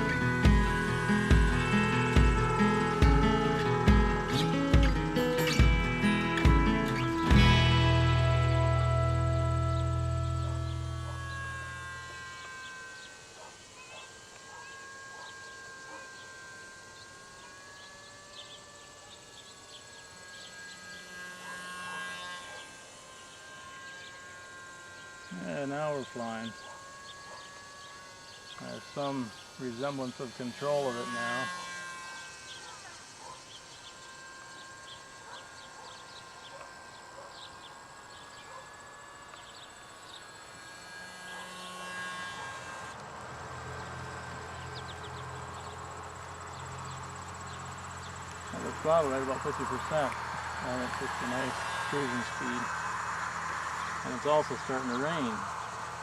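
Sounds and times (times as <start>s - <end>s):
birds chirping: 0.0s - 56.0s
model plane motor whine: 0.0s - 56.0s.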